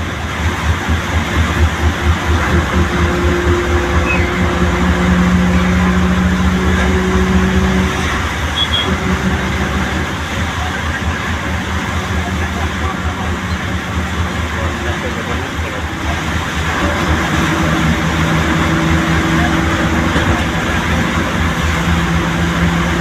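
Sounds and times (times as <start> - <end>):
bus engine rumbling: 0.0 - 23.0
rain and tyres on wet road: 0.0 - 23.0.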